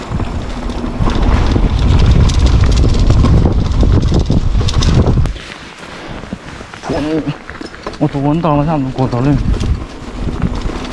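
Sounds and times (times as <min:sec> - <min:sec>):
bike clattering over bumps: 0:00.0 - 0:05.3, 0:06.2 - 0:10.9
wind buffeting microphone: 0:00.0 - 0:05.4, 0:06.2 - 0:10.9.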